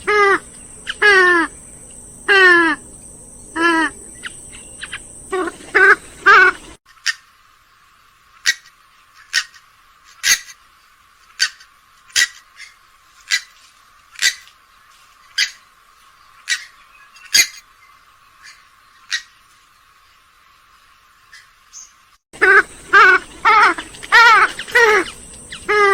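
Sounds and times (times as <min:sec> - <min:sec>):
swamphen calling: 0:00.0 - 0:25.9.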